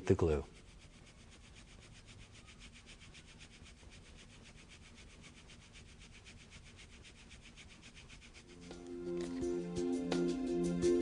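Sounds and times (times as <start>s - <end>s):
hand rubbing tape on skin: 0.0s - 9.7s.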